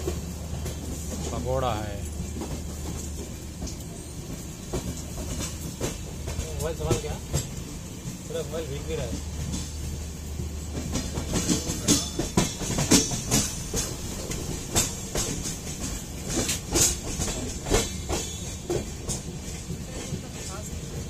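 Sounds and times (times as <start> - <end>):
train running low rumble: 0.0 - 21.0
wheels clanking over rail joints: 0.0 - 21.0.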